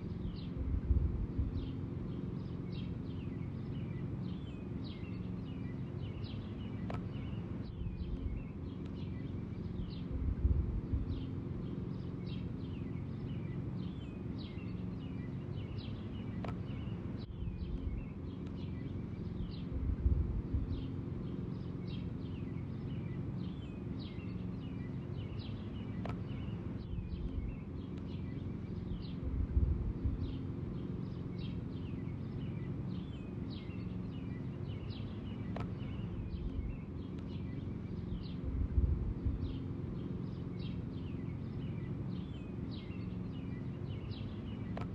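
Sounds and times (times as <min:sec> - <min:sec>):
lawn mower running: 0:00.0 - 0:44.9
small birds chirping: 0:00.0 - 0:44.9.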